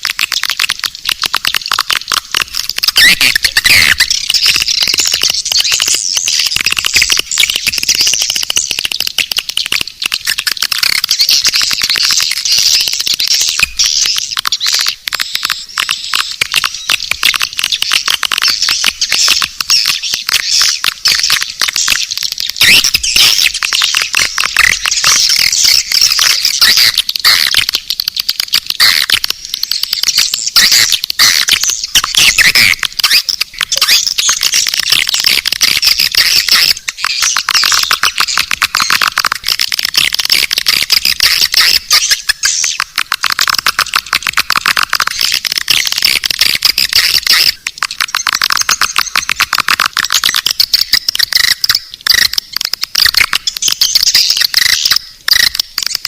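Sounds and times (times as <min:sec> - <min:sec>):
rapid clicks: 0:00.0 - 0:56.0
swiftlets twittering: 0:00.0 - 0:56.0.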